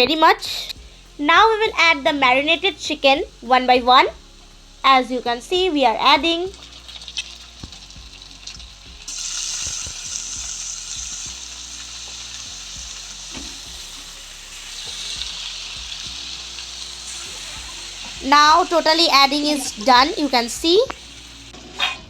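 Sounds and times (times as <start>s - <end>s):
chicken sizzling in hot oil: 2.0s - 21.9s.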